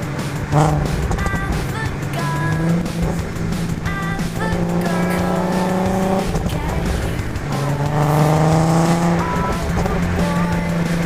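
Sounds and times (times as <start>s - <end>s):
car engine revving while driving: 0.0s - 11.0s.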